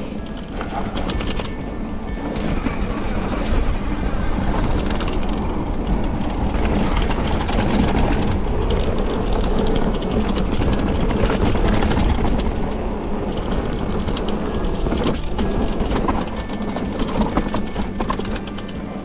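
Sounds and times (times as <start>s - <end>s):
bike rattling over bumps: 0.0s - 19.0s
wind on microphone: 0.0s - 19.0s.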